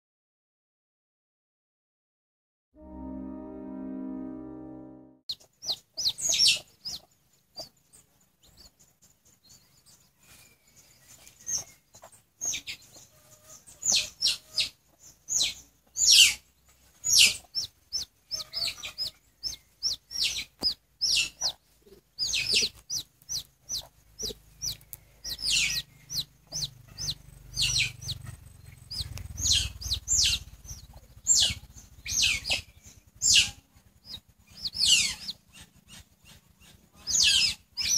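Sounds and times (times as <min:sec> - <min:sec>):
baby chick peeping: 0:05.3 - 0:37.9.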